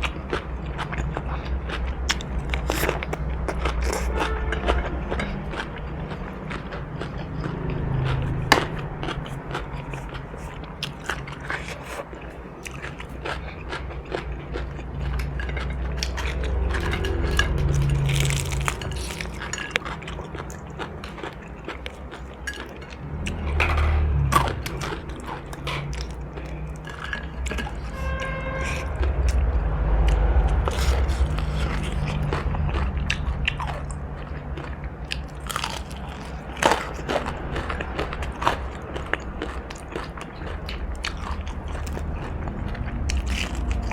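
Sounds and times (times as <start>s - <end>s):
crunchy food chewing: 0.0s - 43.9s
steady low hum: 0.0s - 43.9s.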